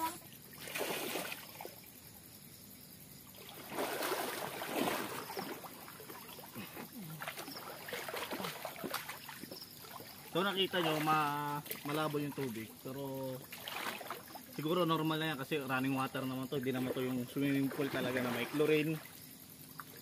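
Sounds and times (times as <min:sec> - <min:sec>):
water splashing from swimming: 0:00.0 - 0:02.0, 0:03.3 - 0:14.8, 0:16.7 - 0:20.0.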